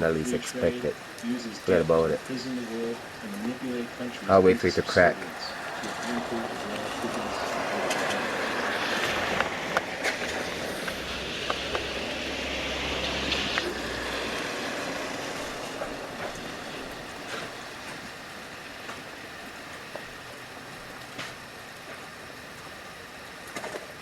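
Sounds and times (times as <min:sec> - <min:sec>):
thunder rumbling: 0:00.0 - 0:20.2.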